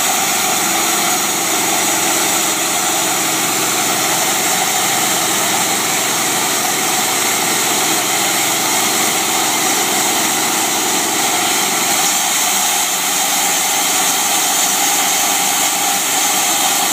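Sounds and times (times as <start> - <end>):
small gasoline engine running: 0.0 - 16.9.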